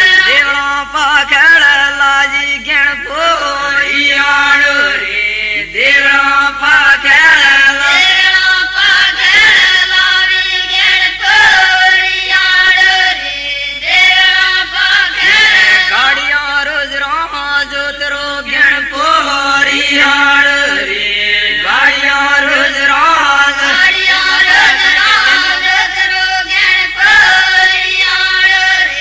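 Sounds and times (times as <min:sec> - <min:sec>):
group singing in unison: 0:00.0 - 0:29.0.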